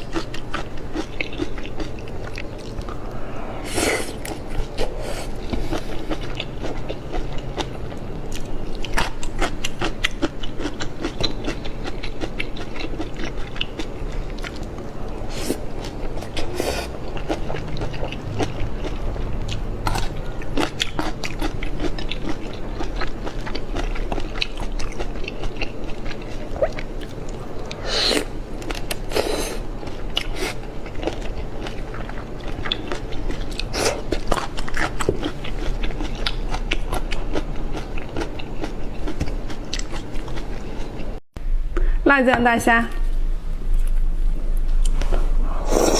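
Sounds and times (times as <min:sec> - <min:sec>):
shrimp being chewed: 0:00.0 - 0:02.9, 0:04.2 - 0:41.2.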